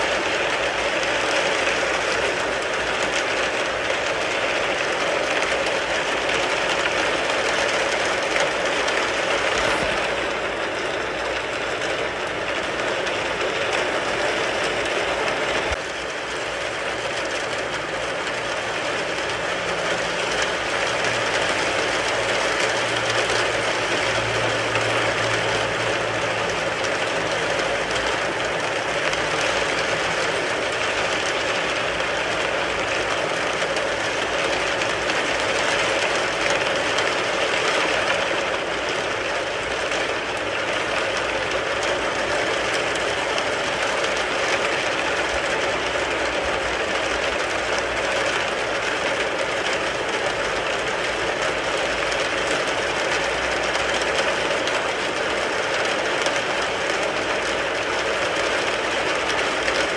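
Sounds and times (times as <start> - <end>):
rain drumming on car roof: 0.0 - 59.9.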